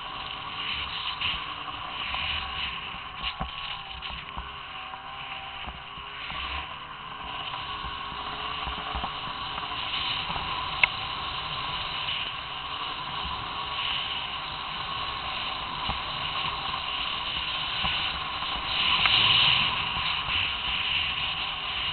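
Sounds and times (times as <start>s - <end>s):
snowmobile engine running: 0.0s - 21.9s
wind hiss on microphone: 0.0s - 21.9s.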